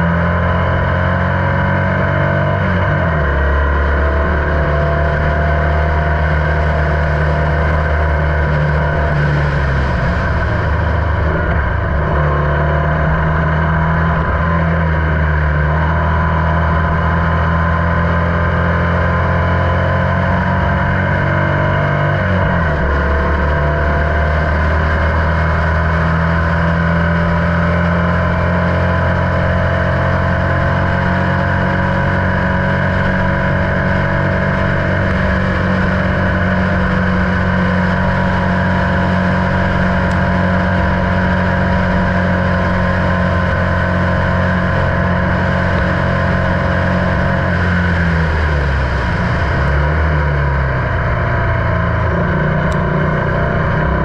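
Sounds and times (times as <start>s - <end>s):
racing car engine running hard: 0.0s - 54.0s.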